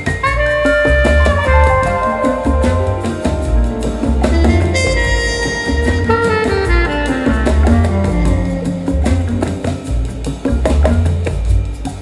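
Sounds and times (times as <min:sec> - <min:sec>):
instrumental music over loudspeakers: 0:00.0 - 0:12.0.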